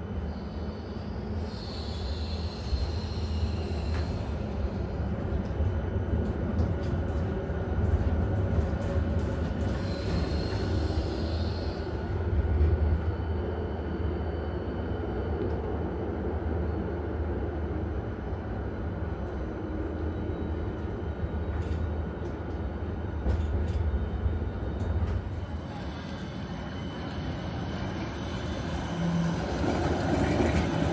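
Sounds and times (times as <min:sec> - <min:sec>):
tram rumble: 0:00.0 - 0:30.9.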